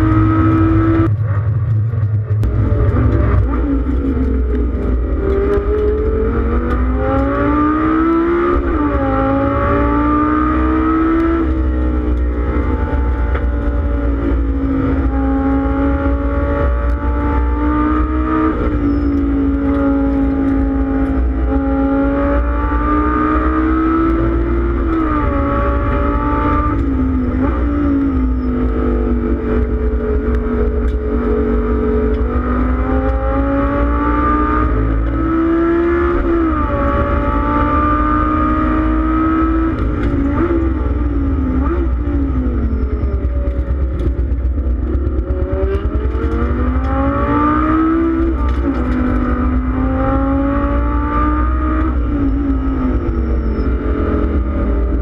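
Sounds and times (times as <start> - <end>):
race car engine revving: 0.0 - 55.0
road noise drone: 0.0 - 55.0.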